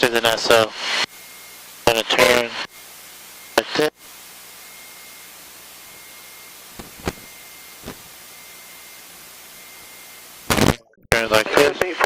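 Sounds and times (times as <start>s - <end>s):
faint high whine: 0.0s - 10.7s
headset intercom static hiss: 0.0s - 12.0s.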